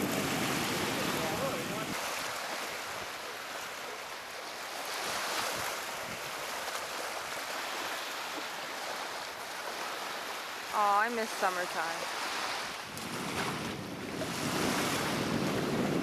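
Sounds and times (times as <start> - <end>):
waves washing onto sandy beach: 0.0 - 16.0.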